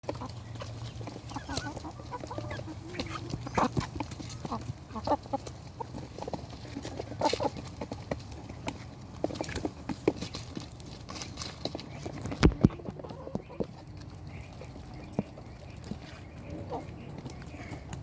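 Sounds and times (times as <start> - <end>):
chicken clucking: 0.0 - 18.0.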